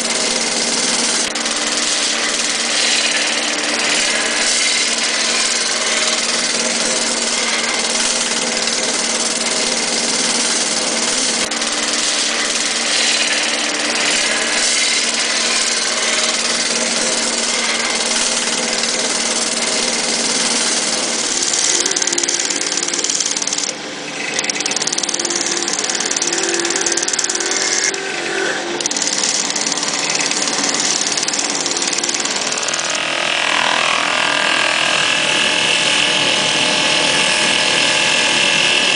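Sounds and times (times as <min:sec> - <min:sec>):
motor hum: 0:00.0 - 0:38.9.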